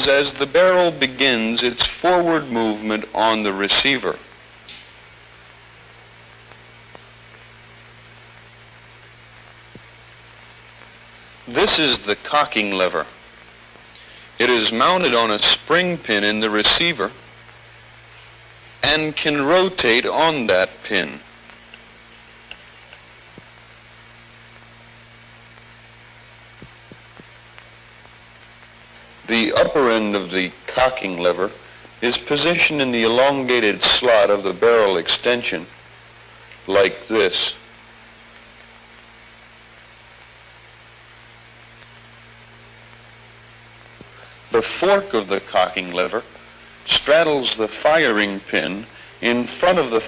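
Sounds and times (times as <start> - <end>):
film soundtrack hiss: 0.0 - 50.0
mains hum: 0.0 - 50.0.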